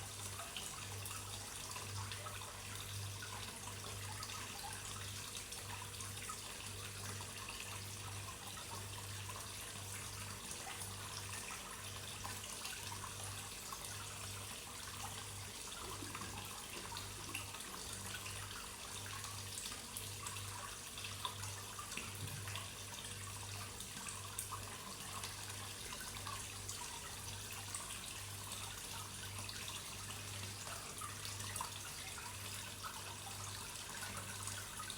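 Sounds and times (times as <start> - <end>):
water trickling into a pond: 0.0 - 34.9.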